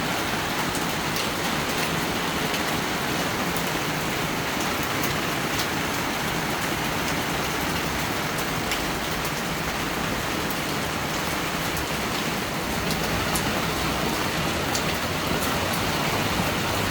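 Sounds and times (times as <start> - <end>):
rain falling: 0.0 - 16.9
raindrops tapping: 0.5 - 16.9.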